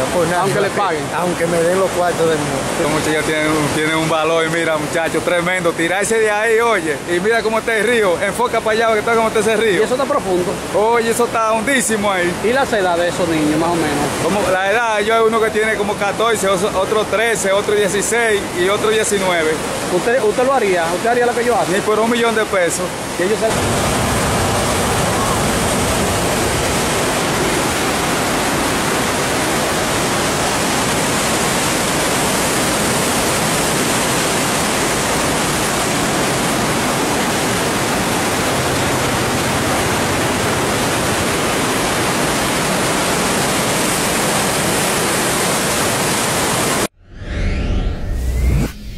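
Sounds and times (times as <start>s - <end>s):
floodwater rushing over a weir: 0.0s - 46.9s.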